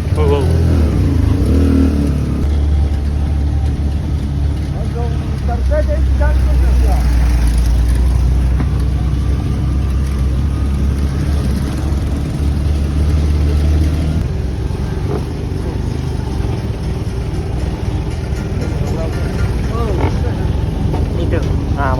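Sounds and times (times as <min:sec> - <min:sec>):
vehicle engine and road rumble: 0:00.0 - 0:21.9.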